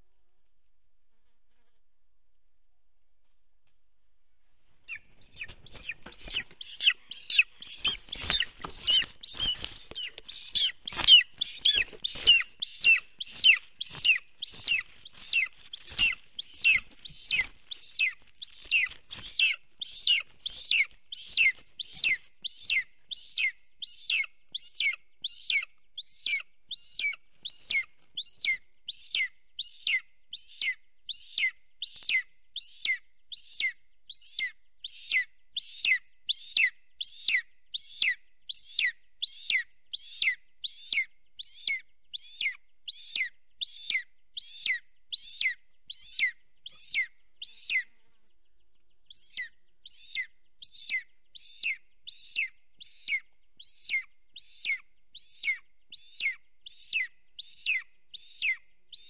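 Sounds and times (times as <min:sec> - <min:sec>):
eaglet whistled begging calls: 0:04.7 - 0:47.9, 0:49.1 - 0:59.0.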